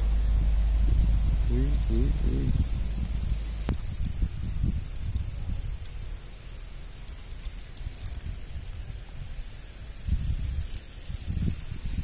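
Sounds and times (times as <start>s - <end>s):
dry corn leaves rustling: 0.0s - 12.0s
wind rumble on microphone: 0.0s - 12.0s.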